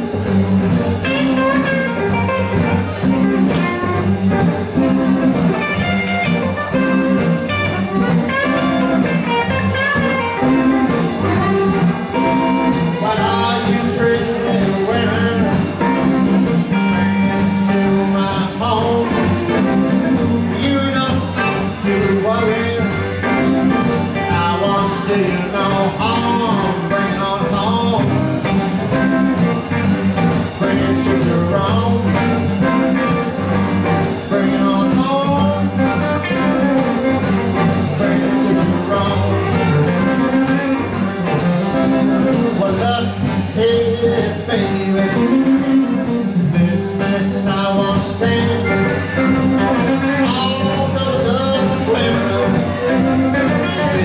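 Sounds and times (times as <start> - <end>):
electric blues band playing: 0.0 - 54.0
electric guitar: 0.0 - 54.0
person singing: 6.0 - 54.0.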